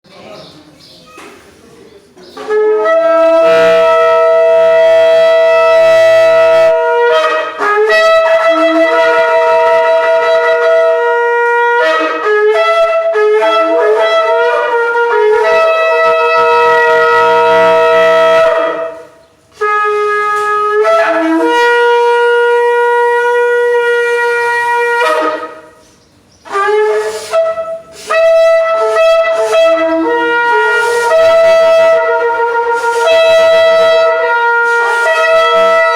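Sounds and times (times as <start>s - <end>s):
ram's horn trumpet blasts: 2.4s - 35.9s.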